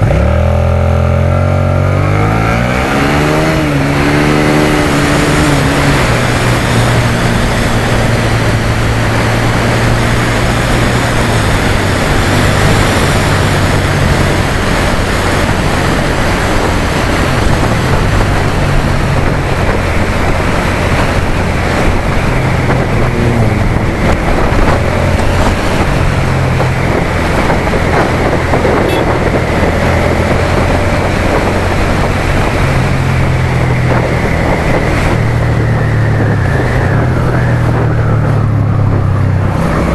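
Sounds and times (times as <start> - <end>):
motorcycle engine running: 0.0 - 39.9
loud steady rushing noise: 1.7 - 39.9.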